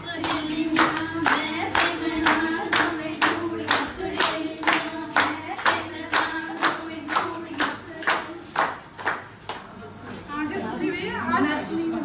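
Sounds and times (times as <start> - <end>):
hands clapping in steady beat: 0.0 - 9.7.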